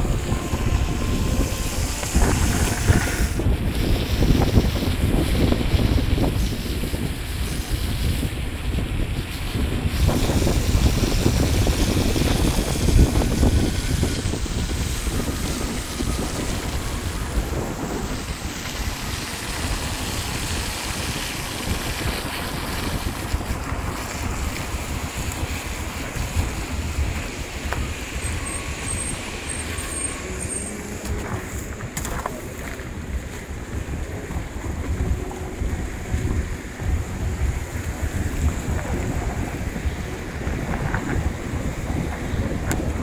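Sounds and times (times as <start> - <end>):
car rumbling on road: 0.0 - 43.0
wind buffeting microphone: 0.0 - 43.0.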